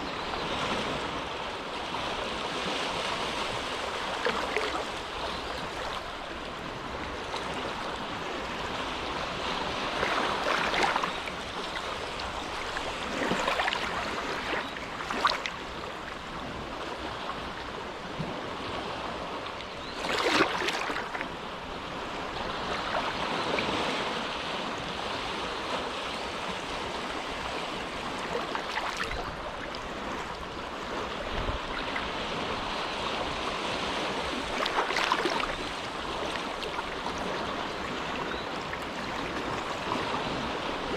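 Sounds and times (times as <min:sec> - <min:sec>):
small waves lapping: 0:00.0 - 0:40.9.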